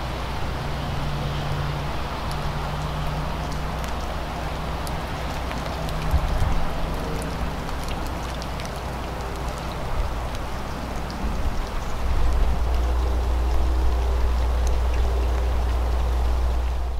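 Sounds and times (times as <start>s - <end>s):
low steady rumble: 0.0s - 16.9s
water drops pattering: 1.4s - 16.9s.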